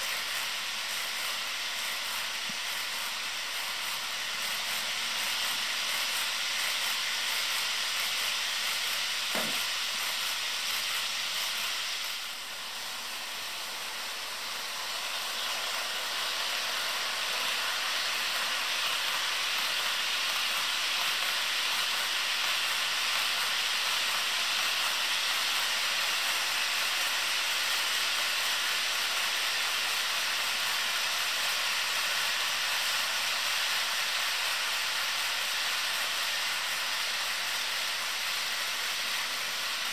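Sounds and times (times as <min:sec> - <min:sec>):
model train wheels rolling on rails: 0:00.0 - 0:39.9.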